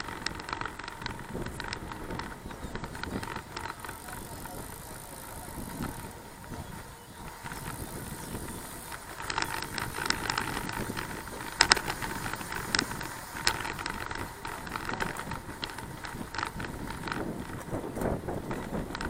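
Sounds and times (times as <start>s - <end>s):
bicycle tyres and wind rushing: 0.0s - 19.0s
sharp rattling clicks: 0.0s - 19.0s.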